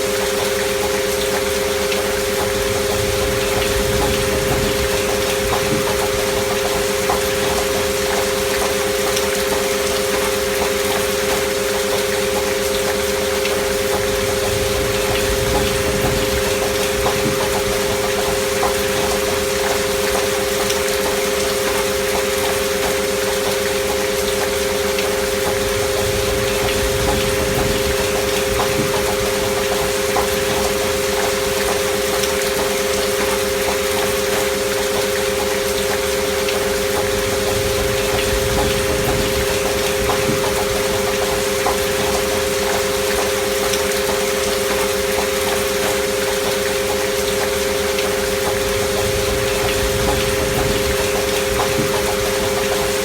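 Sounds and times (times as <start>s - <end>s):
soft rainfall: 0.0s - 53.0s.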